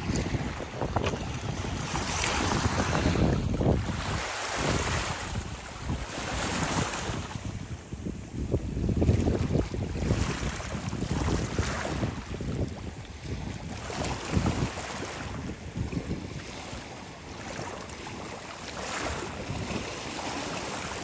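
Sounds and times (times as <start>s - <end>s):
waves lapping on pebbles: 0.0s - 21.0s
wind buffeting microphone: 0.0s - 21.0s.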